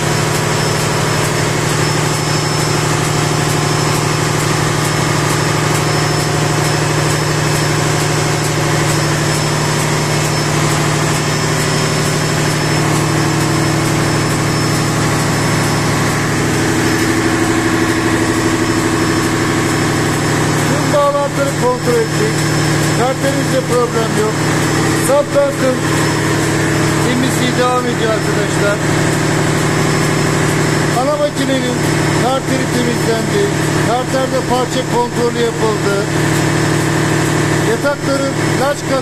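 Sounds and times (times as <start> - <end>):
loud machinery drone: 0.0 - 39.0.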